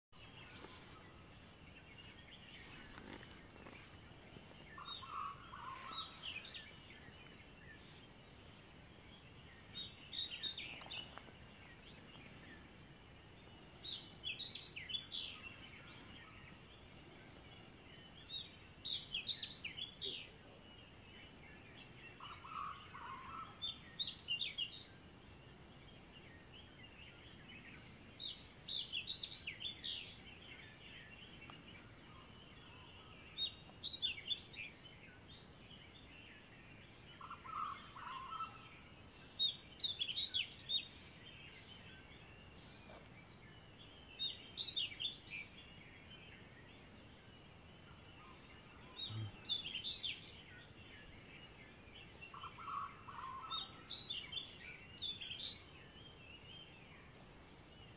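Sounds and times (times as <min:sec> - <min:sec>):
background bird chorus: 0:00.1 - 0:57.9.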